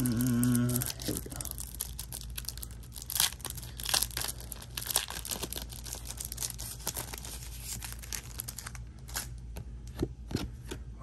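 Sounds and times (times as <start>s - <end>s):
plastic wrapping crinkling and tearing: 0.0s - 9.4s.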